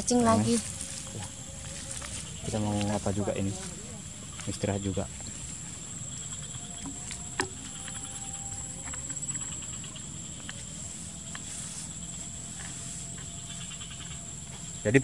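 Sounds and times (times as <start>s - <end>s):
insect pulsing chirp: 0.0s - 15.0s
insects droning: 0.0s - 15.0s.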